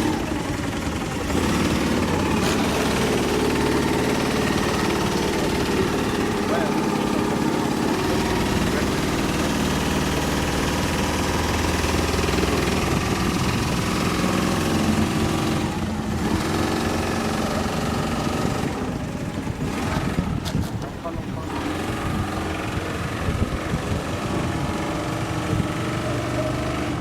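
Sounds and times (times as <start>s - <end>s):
compressed-air engine running: 0.0s - 27.0s.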